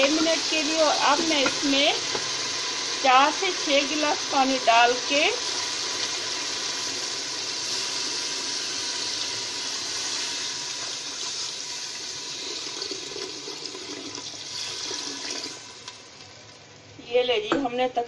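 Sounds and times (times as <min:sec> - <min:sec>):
water pouring into a pot: 0:00.0 - 0:16.6.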